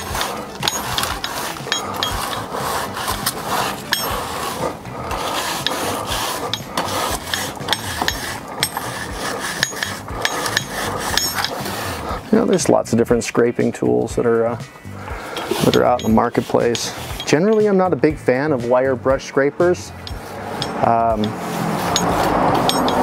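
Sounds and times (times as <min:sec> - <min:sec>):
metal scraper rasping on grill grate: 0:00.0 - 0:12.8, 0:15.0 - 0:18.9, 0:19.7 - 0:23.0.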